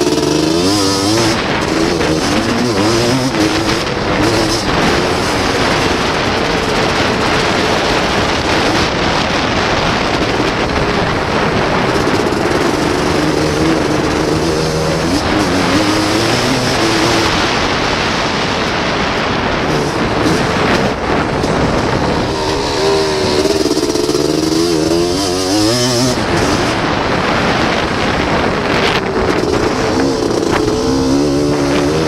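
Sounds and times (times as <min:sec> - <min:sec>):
engine racing: 0:00.0 - 0:32.0
wind rush on microphone: 0:00.0 - 0:32.0.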